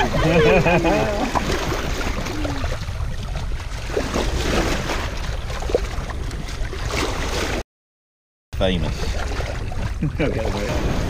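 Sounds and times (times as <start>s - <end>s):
bow wave rushing and splashing: 0.0s - 7.6s, 8.6s - 11.0s.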